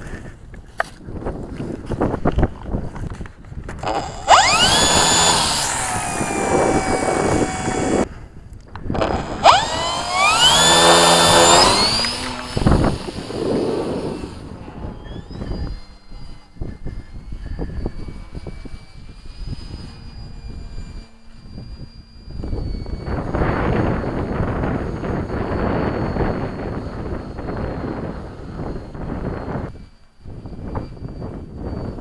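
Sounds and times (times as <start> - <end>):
faint thin motor whine: 0.0 - 32.0
model plane motor whine: 0.0 - 32.0.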